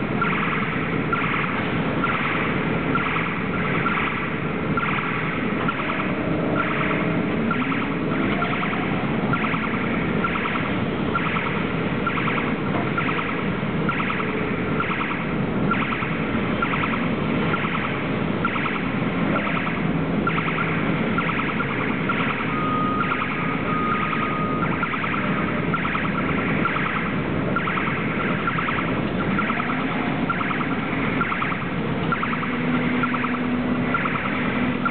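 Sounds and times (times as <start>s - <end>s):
repeating warning beeper: 0.0s - 34.9s
steady machine hum: 0.0s - 34.9s.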